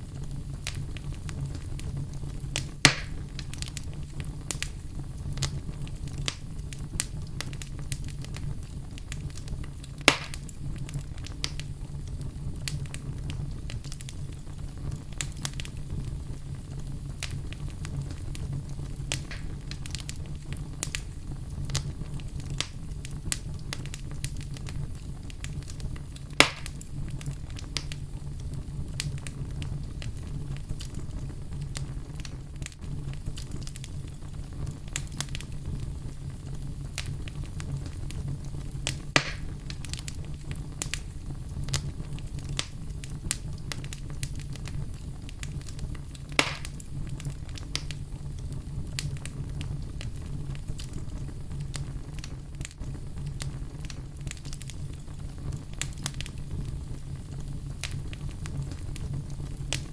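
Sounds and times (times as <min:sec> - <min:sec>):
fire crackling and snapping: 0:00.0 - 0:59.9
fire rumbling: 0:00.0 - 0:59.9
loud fire pops: 0:00.0 - 0:59.9.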